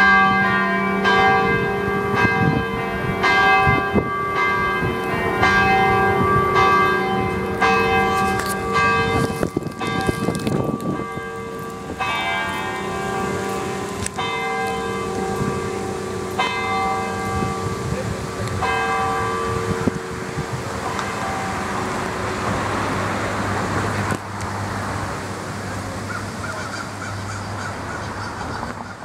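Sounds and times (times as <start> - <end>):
church bells ringing: 0.0 - 27.4
rushing noise: 0.9 - 26.5.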